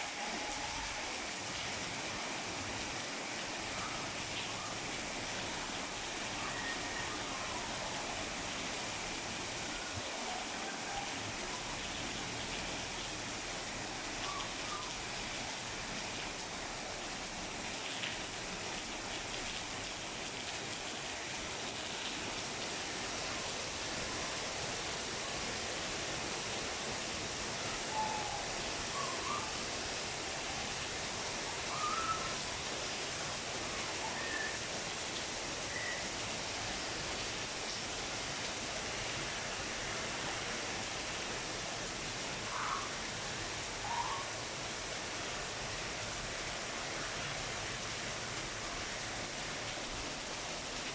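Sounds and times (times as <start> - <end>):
steady rainfall hiss: 0.0 - 50.9.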